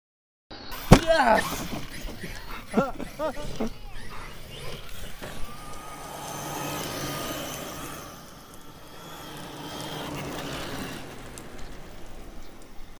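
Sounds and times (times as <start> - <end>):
electric motor whining: 0.7 - 12.9
wheels rolling on asphalt: 0.7 - 12.9.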